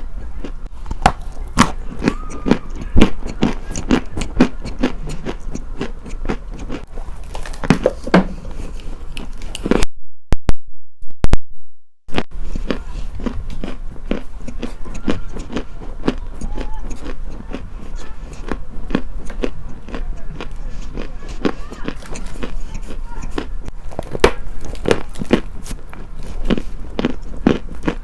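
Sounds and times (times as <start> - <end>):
crunching and chewing: 0.0 - 9.9, 12.1 - 28.0.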